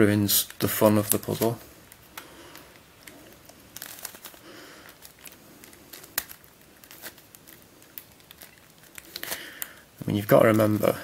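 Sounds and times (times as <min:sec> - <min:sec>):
plastic puzzle clicking and scraping: 0:00.4 - 0:09.7.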